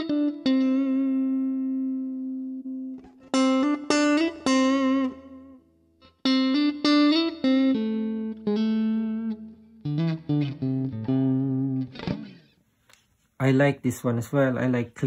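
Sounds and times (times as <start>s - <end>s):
clean electric guitar notes: 0.0s - 12.5s.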